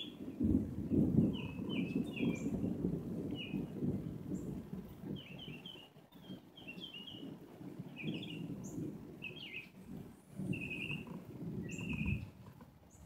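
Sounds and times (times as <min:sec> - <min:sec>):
birds chirping: 0:00.0 - 0:03.8, 0:05.2 - 0:07.3, 0:07.9 - 0:13.0.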